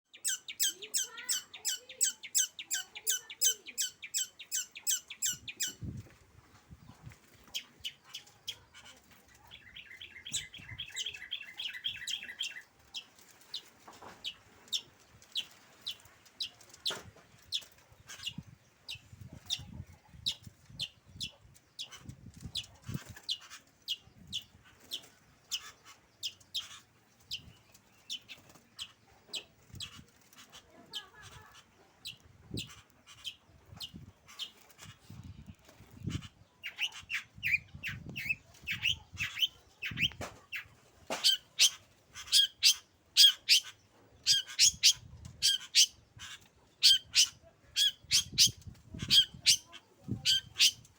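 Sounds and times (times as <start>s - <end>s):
bird chirping: 0.0s - 6.0s, 6.7s - 30.0s, 36.0s - 50.9s.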